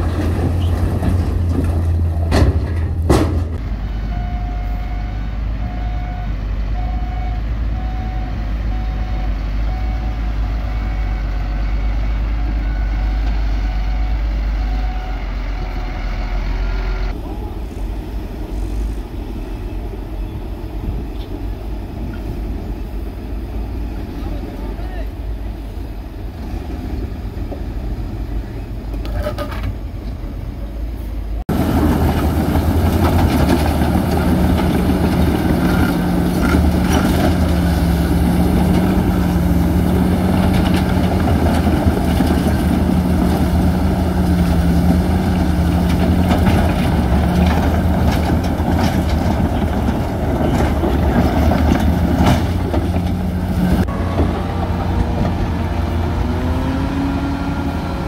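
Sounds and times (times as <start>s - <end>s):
engine low drone: 0.0s - 58.0s
heavy diesel engine running: 0.0s - 58.0s.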